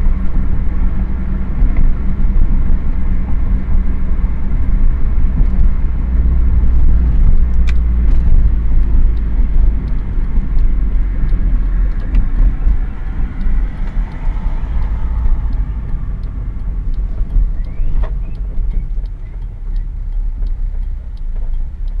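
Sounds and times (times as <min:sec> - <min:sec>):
car engine rumbling: 0:00.0 - 0:22.0
faint transmission whine: 0:00.0 - 0:22.0.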